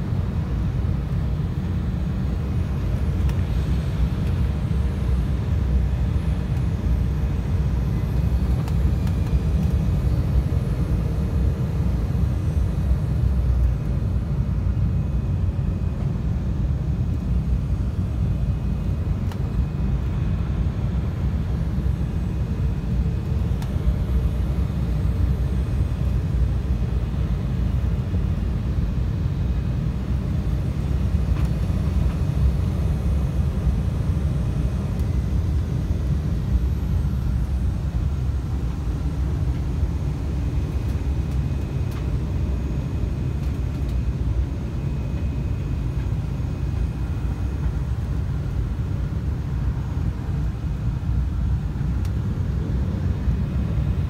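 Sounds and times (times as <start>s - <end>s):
faint steady tones: 0.0s - 54.0s
jet engines rumbling: 0.0s - 54.0s.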